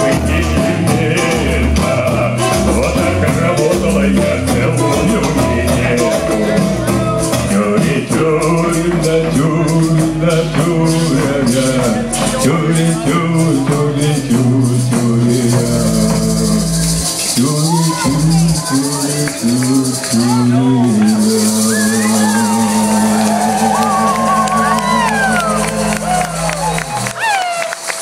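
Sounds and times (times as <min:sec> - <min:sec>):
accordion: 0:00.0 - 0:27.2
guitar: 0:00.0 - 0:28.0
shaker-like percussion: 0:00.0 - 0:28.0.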